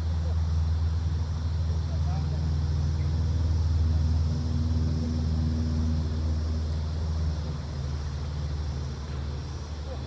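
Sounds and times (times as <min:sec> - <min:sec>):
small engine humming: 0:00.0 - 0:10.0.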